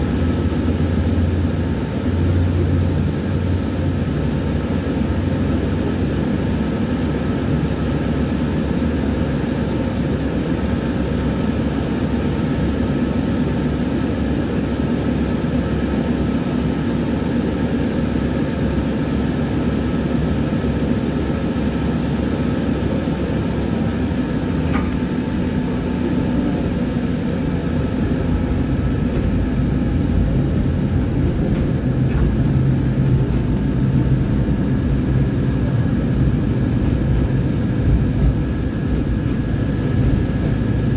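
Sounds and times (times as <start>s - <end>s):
tram wheels rumbling on rail: 0.0s - 40.9s.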